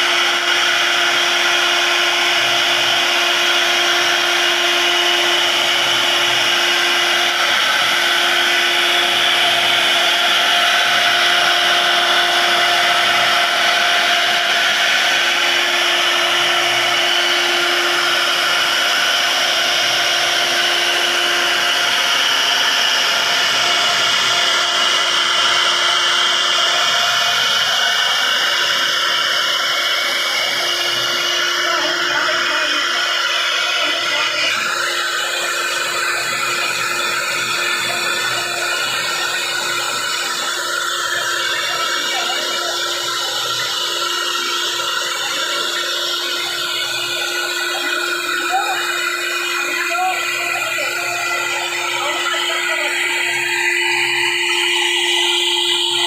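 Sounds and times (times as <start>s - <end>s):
bit cutting into wood: 0.0s - 56.0s
router spindle whine: 0.0s - 56.0s.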